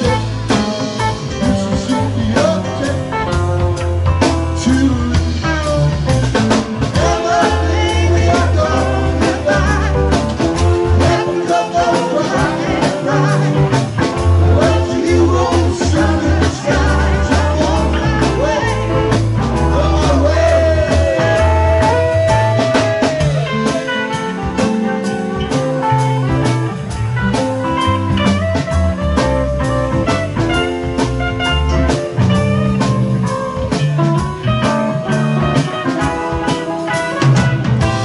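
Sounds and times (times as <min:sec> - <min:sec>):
bass guitar: 0:00.0 - 0:38.0
drum kit: 0:00.0 - 0:38.0
electric guitars: 0:00.0 - 0:38.0.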